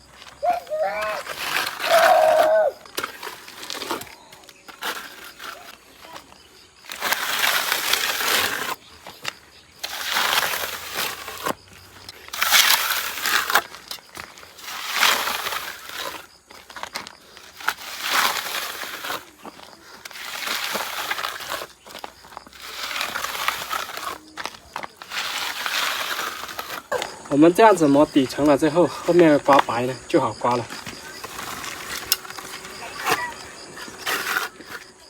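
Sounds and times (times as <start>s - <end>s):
trowel scraping mortar on brick: 0.0s - 35.0s.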